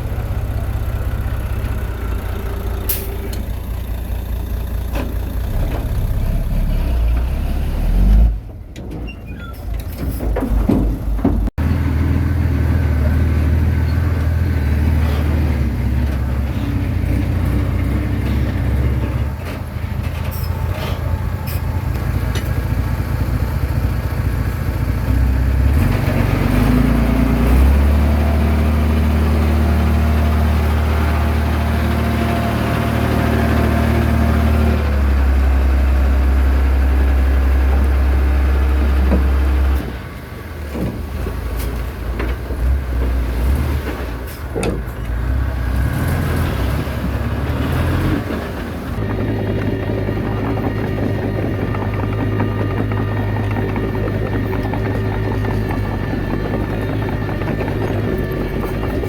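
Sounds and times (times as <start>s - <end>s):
bulldozer diesel engine working: 0.0s - 59.0s.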